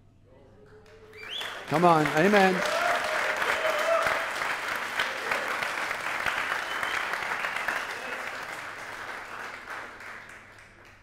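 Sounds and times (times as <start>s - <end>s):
congregation applauding: 0.8s - 11.0s.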